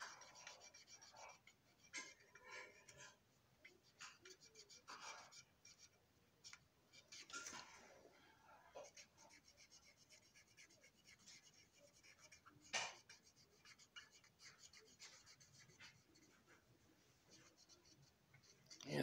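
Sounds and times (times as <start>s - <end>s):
marker rubbing on plastic: 0.0s - 7.7s, 8.8s - 19.0s.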